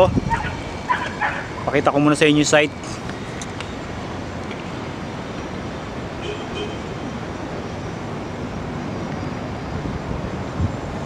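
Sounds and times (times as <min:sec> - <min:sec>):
outdoor hiss and rumble: 0:00.0 - 0:11.0.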